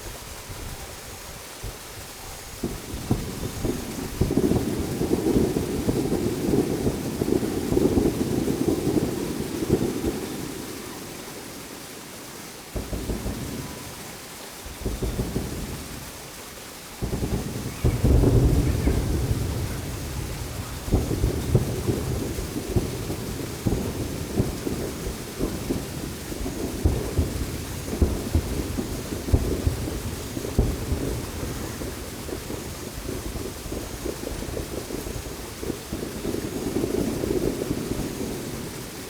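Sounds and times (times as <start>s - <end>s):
fireworks booming: 1.6s - 39.0s.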